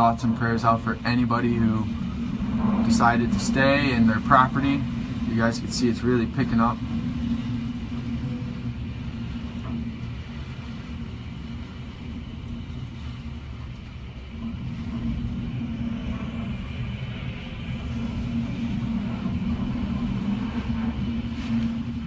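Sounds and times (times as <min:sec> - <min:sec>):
wind rumbling through window: 0:00.0 - 0:22.0.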